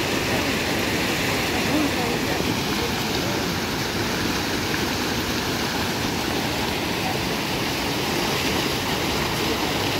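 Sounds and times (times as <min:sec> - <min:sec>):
floodwater rushing: 0:00.0 - 0:09.9.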